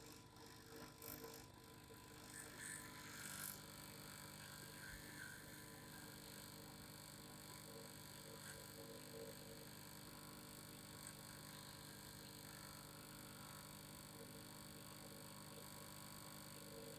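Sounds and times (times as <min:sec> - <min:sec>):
faint vibrating hum: 0:00.0 - 0:16.9.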